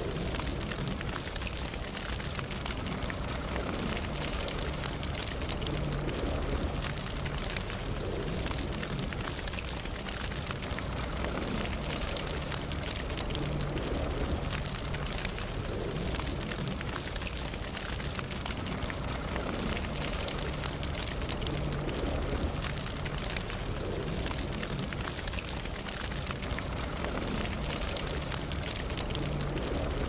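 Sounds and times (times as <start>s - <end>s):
campfire crackling and popping: 0.0s - 30.0s
low rumble of flame: 0.0s - 30.0s.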